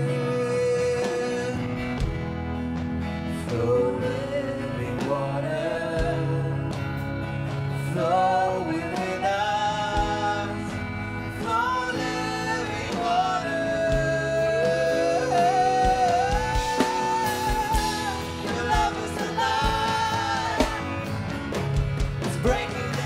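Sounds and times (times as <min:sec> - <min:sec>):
band playing with bass: 0:00.0 - 0:23.0
person singing gospel song: 0:00.0 - 0:23.0.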